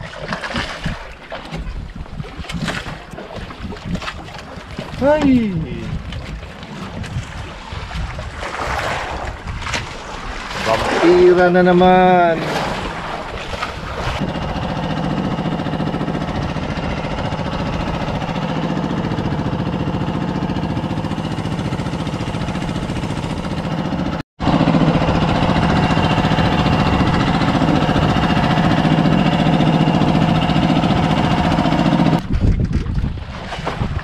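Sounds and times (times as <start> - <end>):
boat engine pulsing: 0.0 - 34.0.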